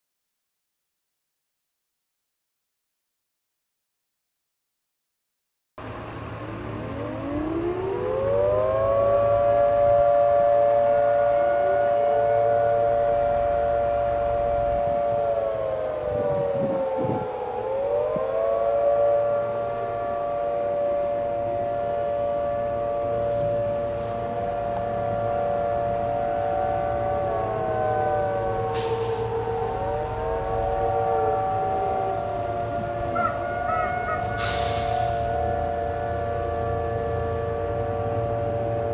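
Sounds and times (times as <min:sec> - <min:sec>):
warning sirens wailing: 0:05.8 - 0:38.9.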